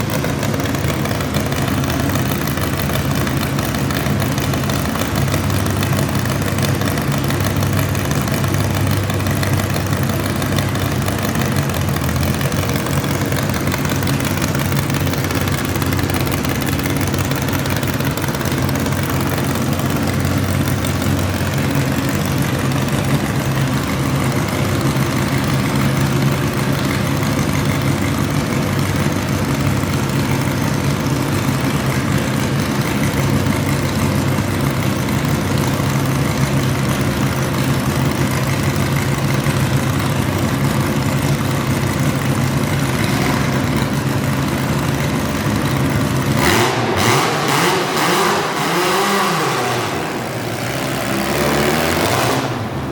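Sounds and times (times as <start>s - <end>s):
tractor engine idling: 0.0s - 52.9s.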